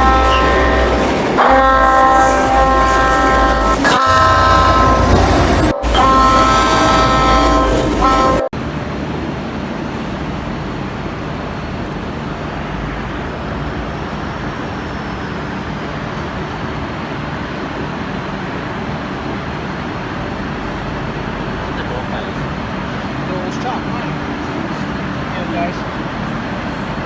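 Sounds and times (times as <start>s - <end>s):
vehicle rumble and hiss: 4.9s - 27.0s.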